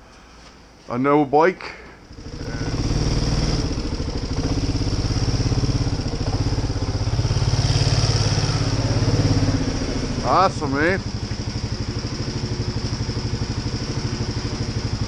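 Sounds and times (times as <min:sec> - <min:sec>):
engine idling: 0:02.0 - 0:15.0.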